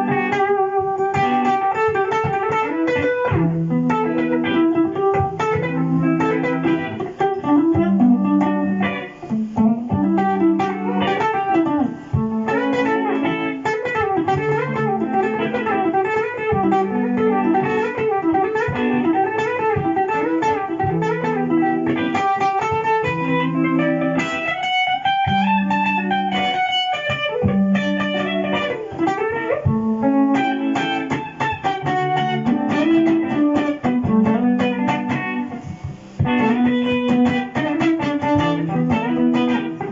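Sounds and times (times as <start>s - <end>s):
jazz electric guitar lead melody: 0.0s - 39.9s
looped guitar chords and bass: 0.0s - 39.9s.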